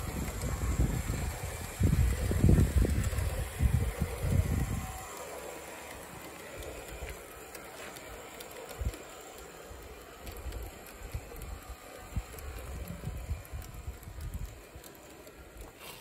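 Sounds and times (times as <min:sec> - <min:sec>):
model train rolling on track: 0:00.0 - 0:16.0.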